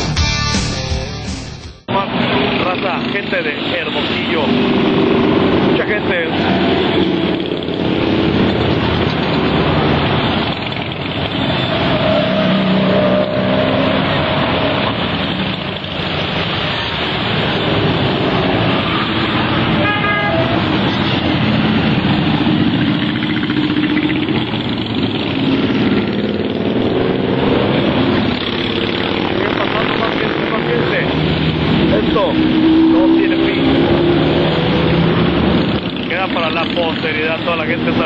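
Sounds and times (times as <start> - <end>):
motorcycles revving past: 4.2 - 19.8, 20.5 - 38.0.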